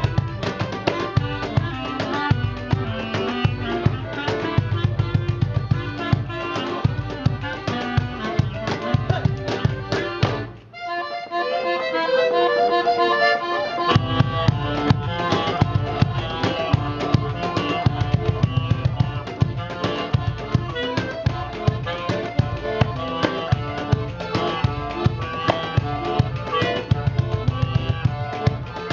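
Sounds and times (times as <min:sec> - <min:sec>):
drum beat: 0:00.0 - 0:10.5, 0:13.9 - 0:28.9
live band playing: 0:00.0 - 0:28.9.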